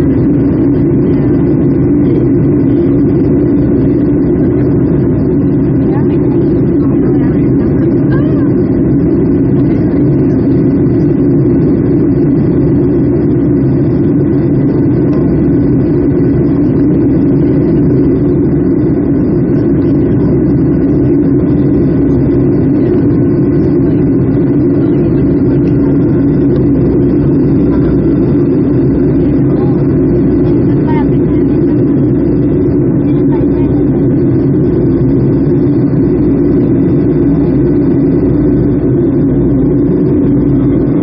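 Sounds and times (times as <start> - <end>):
airplane cabin engine drone: 0.0 - 41.0.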